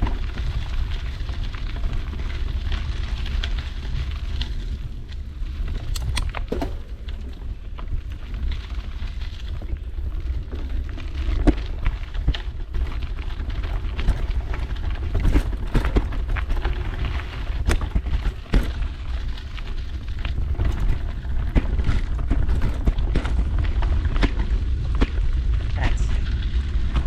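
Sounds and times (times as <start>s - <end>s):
bike clicks and rattles: 0.0s - 25.7s
wind rumble on microphone: 0.0s - 27.0s.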